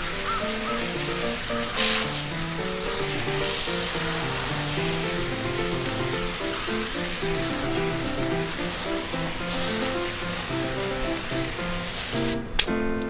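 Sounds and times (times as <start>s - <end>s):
water splashing on ground: 0.0s - 12.4s
hose spray hissing: 0.0s - 12.6s.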